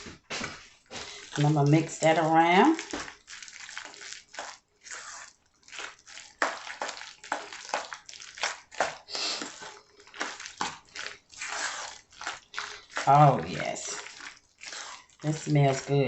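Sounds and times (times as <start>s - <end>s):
wet crunching and squishing: 0.0s - 16.0s.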